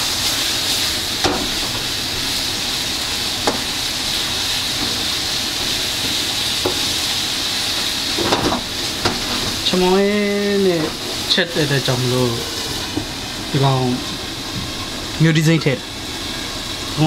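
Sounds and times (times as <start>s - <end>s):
curry sizzling in a pot: 0.0s - 17.0s.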